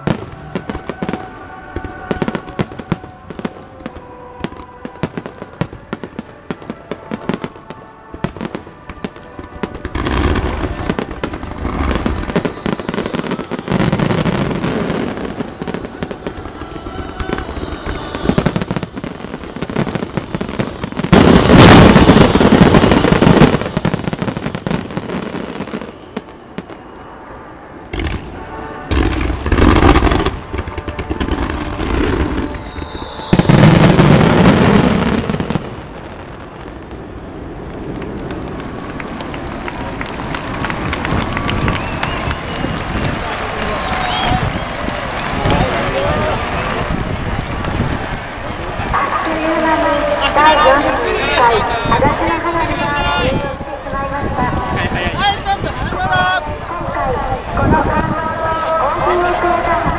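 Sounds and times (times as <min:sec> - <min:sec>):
fireworks crackle: 0:00.0 - 0:59.9.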